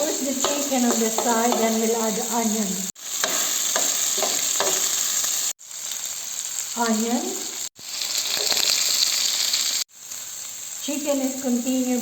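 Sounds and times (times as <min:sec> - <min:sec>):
chicken and onion sizzling in pan: 0:00.0 - 0:12.0.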